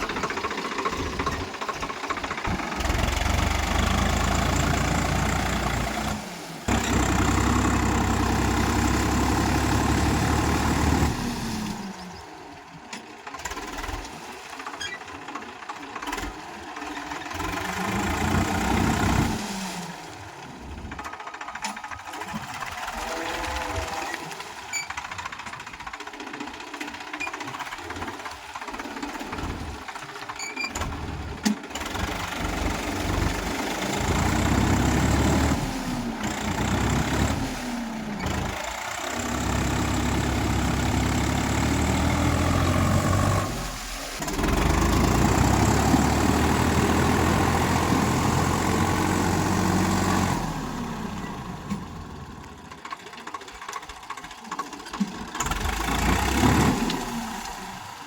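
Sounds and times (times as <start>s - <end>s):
tractor diesel engine revving: 0.0s - 12.2s, 13.3s - 14.2s, 14.9s - 58.0s.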